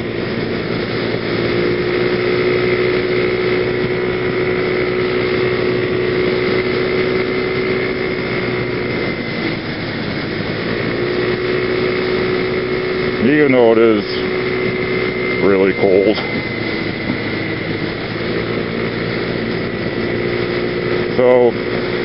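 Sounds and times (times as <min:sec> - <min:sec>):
scooter engine running: 0:00.0 - 0:22.0.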